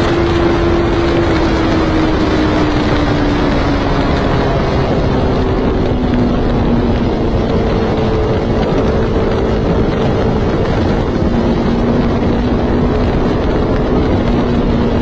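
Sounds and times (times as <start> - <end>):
motorcycle engine at high revs: 0.0 - 15.0
wind rushing over microphone: 0.0 - 15.0.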